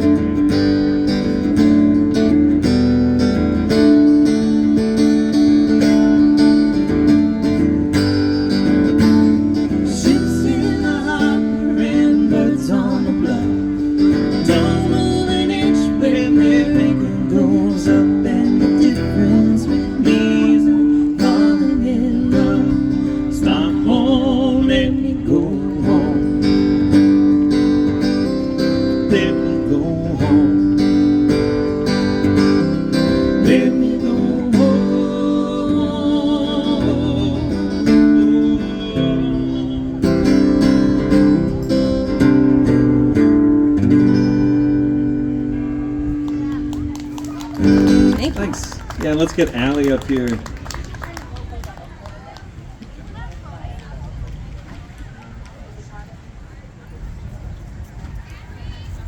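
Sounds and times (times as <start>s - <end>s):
strummed acoustic guitar: 0.0s - 50.3s.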